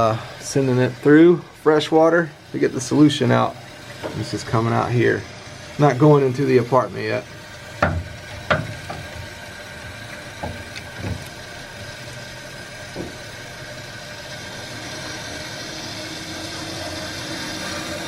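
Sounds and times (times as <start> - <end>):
water rushing from hose: 0.0 - 18.0.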